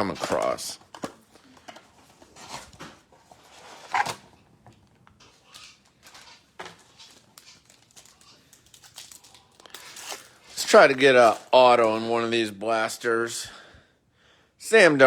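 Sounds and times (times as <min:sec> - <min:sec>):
cardboard and wrappers rustling: 0:00.0 - 0:12.2.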